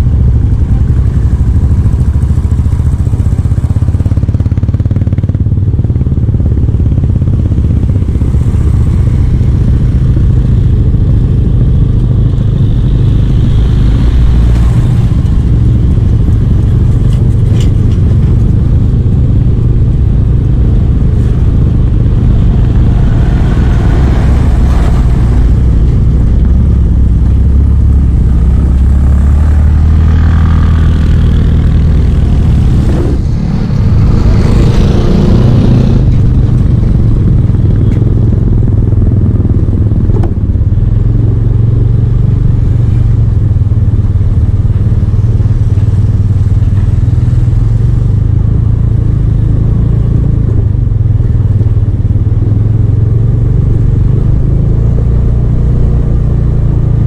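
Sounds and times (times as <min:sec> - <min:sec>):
motorbike engine: 0:00.0 - 0:57.0
wind and road noise rumble: 0:00.0 - 0:57.0.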